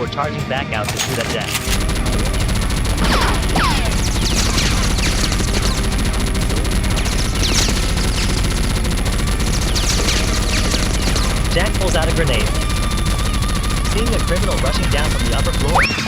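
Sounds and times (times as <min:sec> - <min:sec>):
automatic gunfire: 0:01.2 - 0:16.0.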